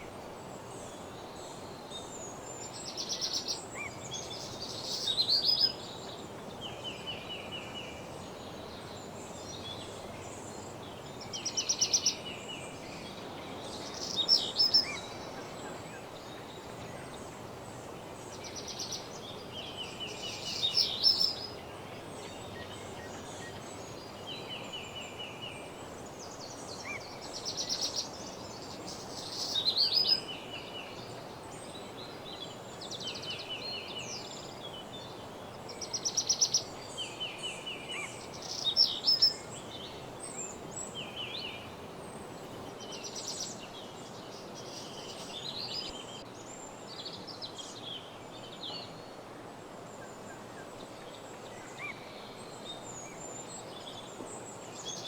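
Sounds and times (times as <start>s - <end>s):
low background hiss: 0.0s - 55.0s
songbirds trilling and chattering: 0.0s - 55.0s.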